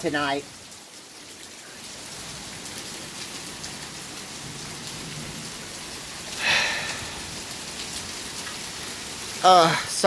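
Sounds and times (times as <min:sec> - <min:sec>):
heavy rain and hail hissing: 0:00.0 - 0:10.0.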